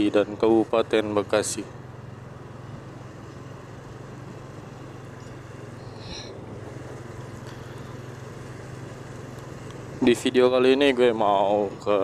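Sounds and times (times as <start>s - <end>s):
motorcycle engine hum: 0.0s - 12.0s
road and wind noise: 0.0s - 12.0s.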